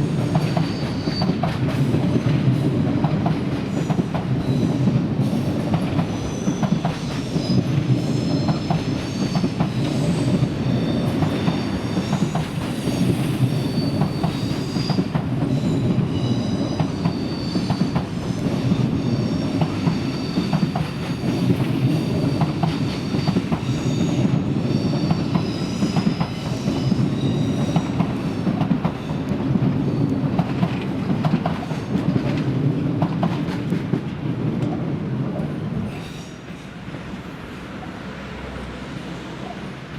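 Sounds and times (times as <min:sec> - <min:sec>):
train rumbling: 0:00.0 - 0:39.9
rail joint clicks: 0:00.1 - 0:36.6.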